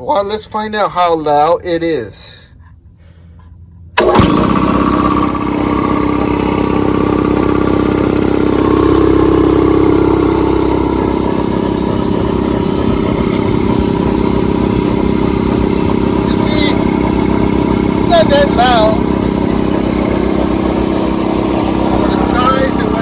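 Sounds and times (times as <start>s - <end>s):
air compressor running: 3.2s - 23.0s.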